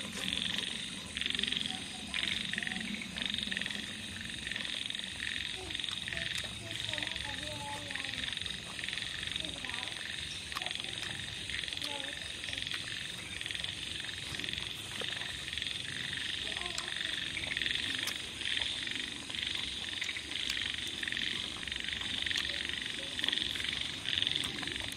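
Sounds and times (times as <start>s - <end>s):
frogs calling: 0.0s - 24.9s.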